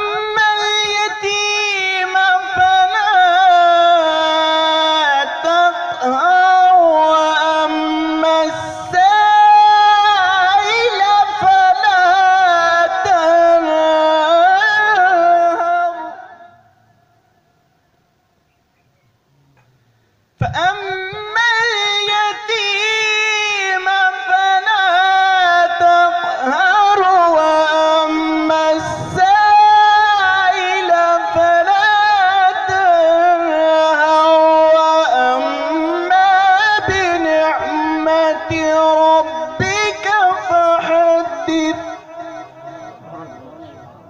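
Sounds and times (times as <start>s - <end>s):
man chanting melodic recitation: 0.0s - 16.9s, 20.4s - 44.0s.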